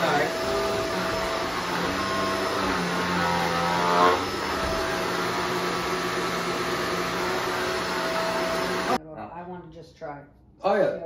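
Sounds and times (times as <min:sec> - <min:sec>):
vacuum cleaner running: 0:00.0 - 0:09.0.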